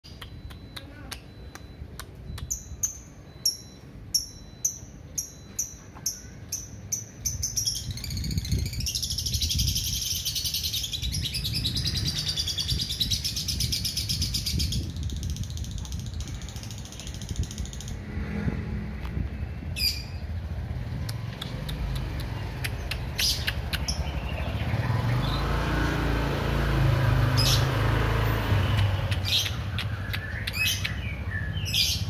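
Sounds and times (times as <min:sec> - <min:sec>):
lovebird chirping and trilling: 0:00.0 - 0:18.0, 0:19.7 - 0:20.4, 0:21.4 - 0:25.6, 0:27.2 - 0:27.8, 0:28.6 - 0:32.0.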